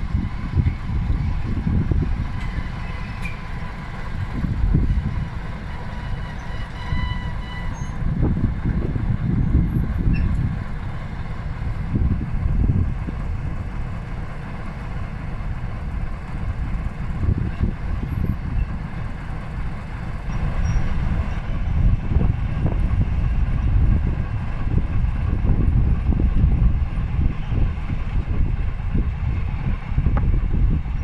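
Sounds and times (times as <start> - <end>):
diesel locomotive engine rumbling: 0.0 - 31.0.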